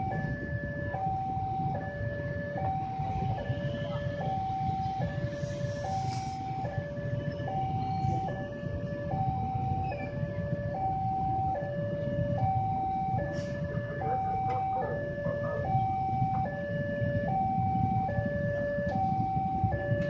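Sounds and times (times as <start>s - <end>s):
level crossing two-tone alarm: 0.0s - 20.0s
low rumble of traffic: 0.0s - 20.0s.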